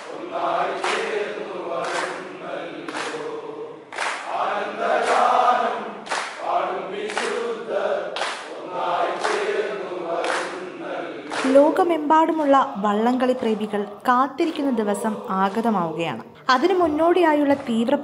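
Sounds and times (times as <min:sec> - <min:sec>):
rowers chanting in unison: 0:00.0 - 0:17.0.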